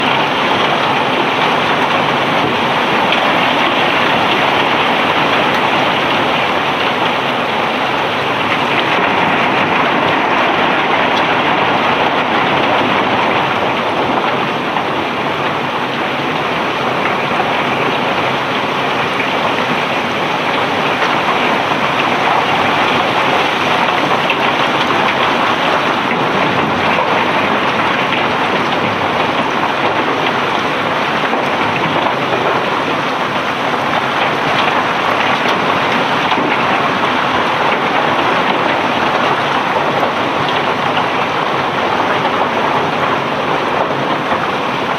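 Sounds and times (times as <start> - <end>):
cobblestones pouring with rushing clatter: 0.0 - 44.9.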